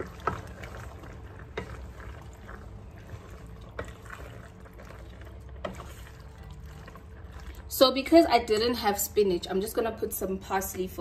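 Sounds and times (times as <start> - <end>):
spoon stirring thick pasta: 0.0 - 11.0.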